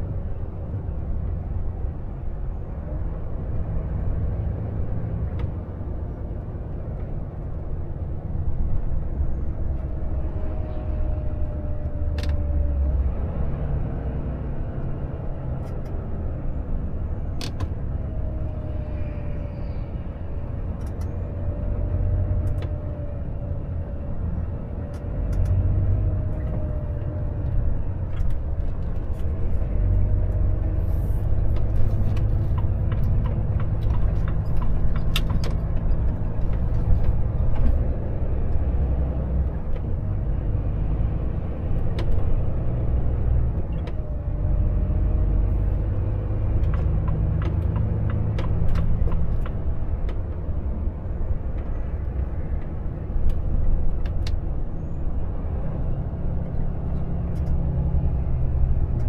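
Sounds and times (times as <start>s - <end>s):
truck engine and road rumble: 0.0s - 59.0s.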